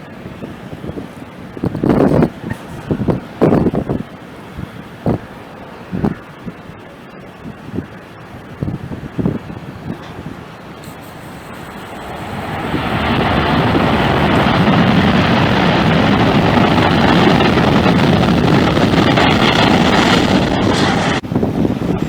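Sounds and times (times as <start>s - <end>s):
jet engines roaring past: 0.0s - 22.0s.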